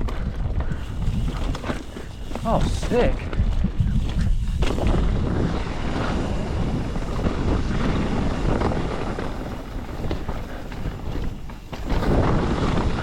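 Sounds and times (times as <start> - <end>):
bike knocking over rocks: 0.0 - 13.0
tyres rumbling on dirt and rock: 0.0 - 13.0
wind rushing over microphone: 0.0 - 13.0.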